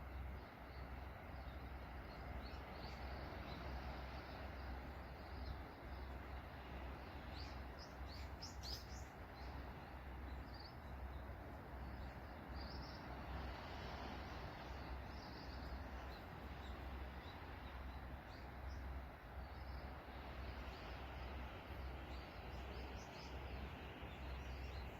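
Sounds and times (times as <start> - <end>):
sea waves: 0.0 - 24.9
small birds chirping: 0.0 - 24.9.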